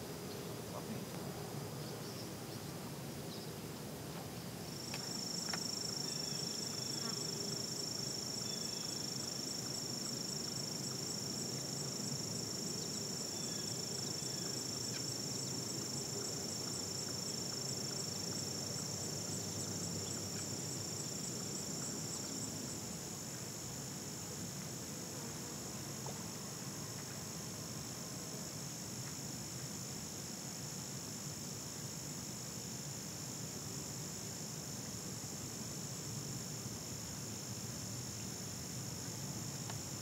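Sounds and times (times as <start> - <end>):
high insect trill: 0.0 - 40.0.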